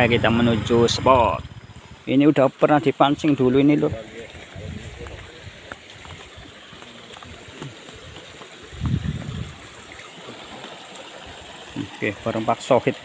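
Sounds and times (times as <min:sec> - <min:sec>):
stream water trickling: 0:00.0 - 0:13.0.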